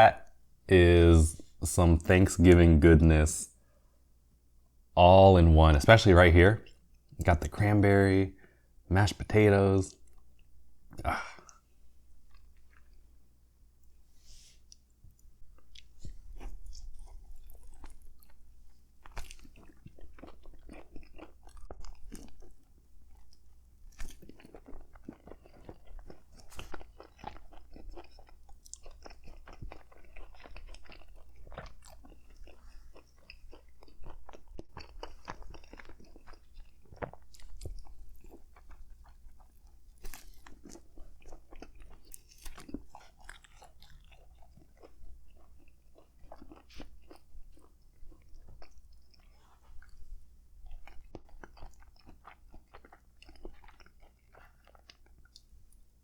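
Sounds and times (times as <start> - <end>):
chewing crusty bread sandwich: 5.6 - 14.0, 14.6 - 56.0.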